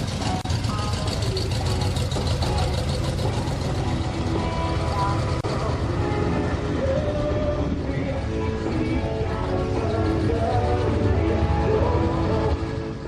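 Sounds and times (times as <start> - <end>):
music: 0.0 - 13.0
vehicle engine idling: 0.0 - 13.0
voices: 0.0 - 13.0.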